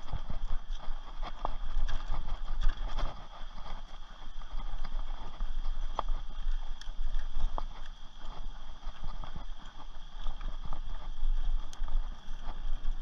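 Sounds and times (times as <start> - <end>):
bike rattling over bumps: 0.0 - 13.0
bike tyres on dirt: 0.0 - 13.0.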